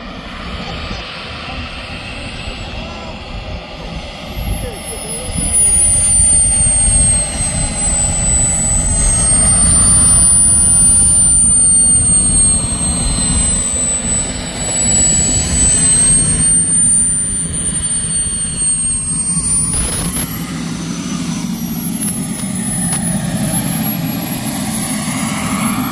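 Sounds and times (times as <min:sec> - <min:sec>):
jet turbine whine: 0:00.0 - 0:25.9
steady rushing roar: 0:00.0 - 0:25.9.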